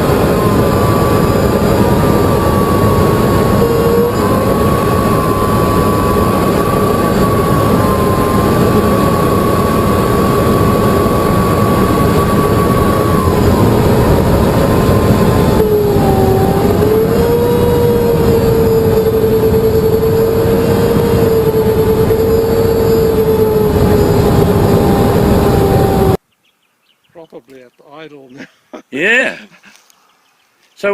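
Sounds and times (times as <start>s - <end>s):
small jet engines running: 0.0s - 26.2s.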